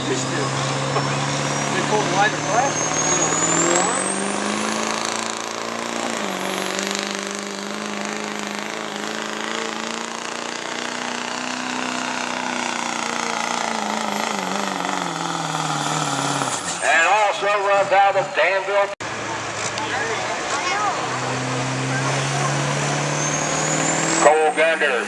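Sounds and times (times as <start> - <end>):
diesel truck engine at high revs: 0.0 - 25.0.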